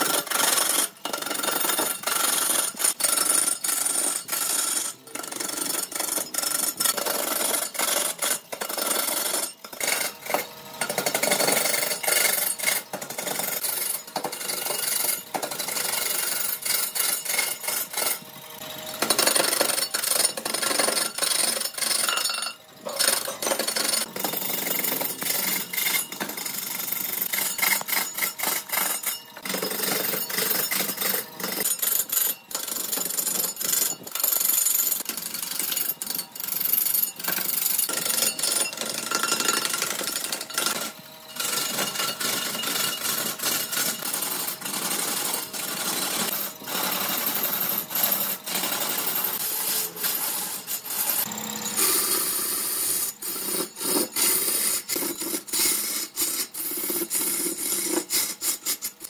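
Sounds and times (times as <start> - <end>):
lathe tool scraping wood: 0.0 - 59.0.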